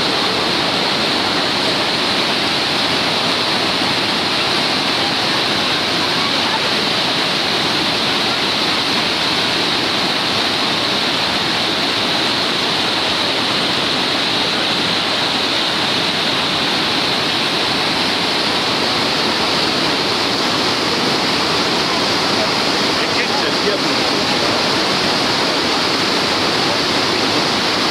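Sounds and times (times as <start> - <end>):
whitewater rapids rushing: 0.0 - 27.9.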